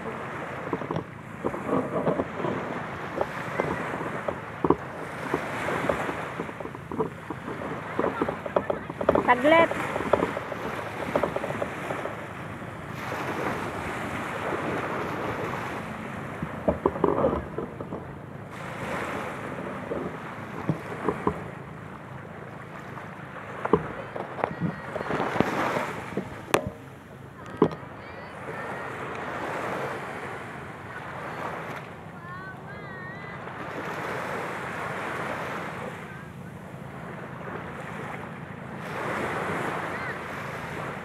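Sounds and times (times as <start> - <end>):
wind on microphone: 0.0 - 38.2
small waves breaking on beach: 0.0 - 41.0.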